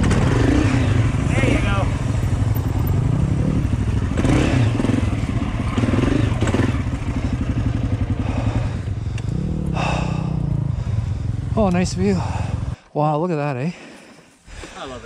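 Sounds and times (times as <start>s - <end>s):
dirt bike engine at low revs: 0.0s - 12.8s.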